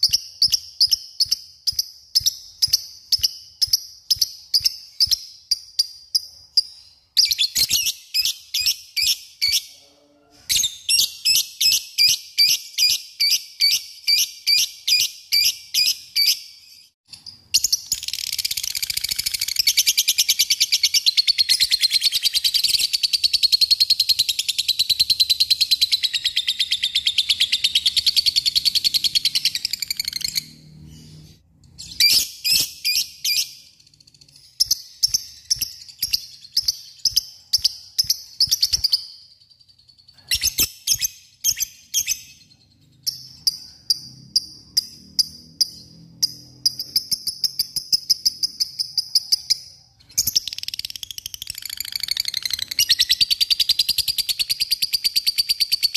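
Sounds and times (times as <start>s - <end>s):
lovebird sharp chirps: 0.0s - 9.7s, 10.5s - 55.9s.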